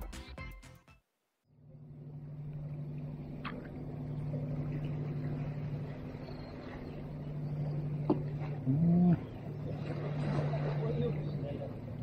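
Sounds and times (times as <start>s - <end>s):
low engine hum: 1.5s - 12.0s.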